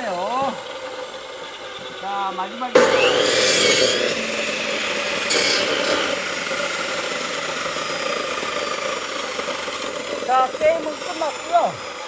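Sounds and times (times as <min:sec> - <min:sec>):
electric saw cutting log: 0:00.0 - 0:12.0.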